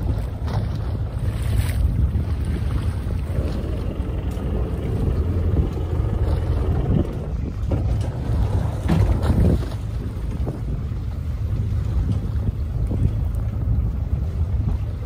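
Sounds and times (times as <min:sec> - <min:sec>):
boat low rumble: 0:00.0 - 0:15.0
gusts or splashes: 0:00.0 - 0:15.0
wind buffeting microphone: 0:00.0 - 0:15.0.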